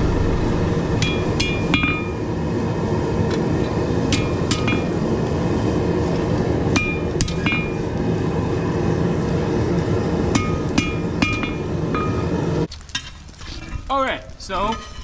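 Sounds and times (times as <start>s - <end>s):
loud rushing noise: 0.0s - 12.7s.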